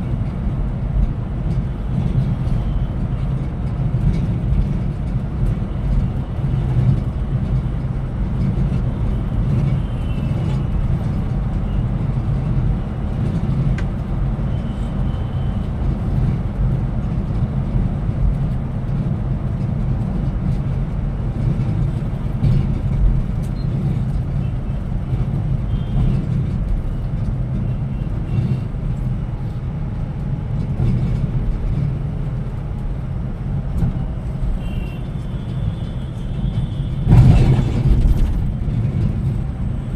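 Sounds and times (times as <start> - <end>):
coach engine and road rumble: 0.0 - 39.9.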